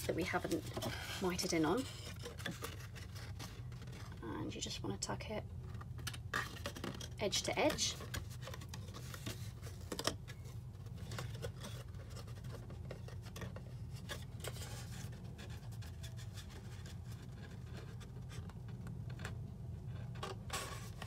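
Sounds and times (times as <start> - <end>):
cardstock rustling and scraping: 0.0 - 4.8, 5.6 - 21.0.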